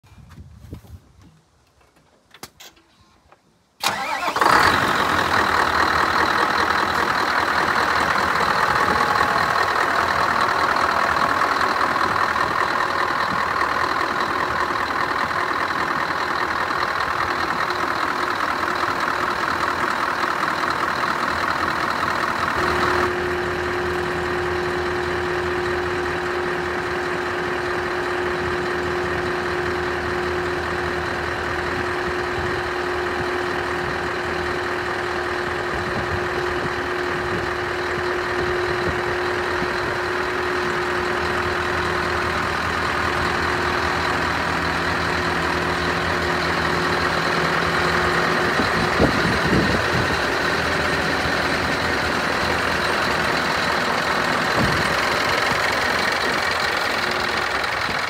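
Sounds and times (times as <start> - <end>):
diesel truck engine idling: 3.8 - 58.0.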